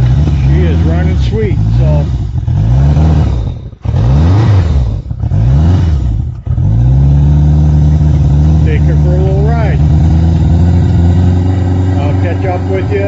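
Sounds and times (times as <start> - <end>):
motorcycle engine idling: 0.0 - 13.0
motorcycle engine revving: 0.0 - 13.0.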